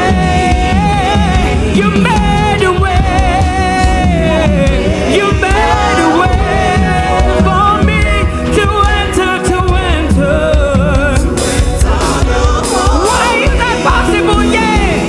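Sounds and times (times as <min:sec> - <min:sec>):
band with heavy bass: 0:00.0 - 0:15.0
singers singing worship music: 0:00.0 - 0:15.0.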